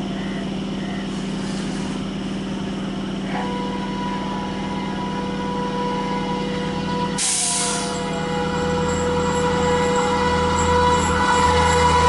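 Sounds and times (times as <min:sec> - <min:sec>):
electric train low hum: 0:00.0 - 0:12.0.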